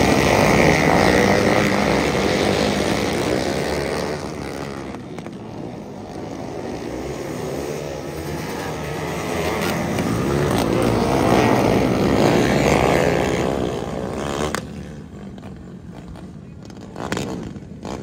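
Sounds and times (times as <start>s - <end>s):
karts racing past: 0.0s - 18.0s.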